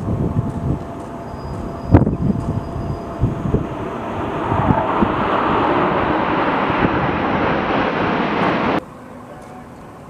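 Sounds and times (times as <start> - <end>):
jet roar: 0.0 - 8.8.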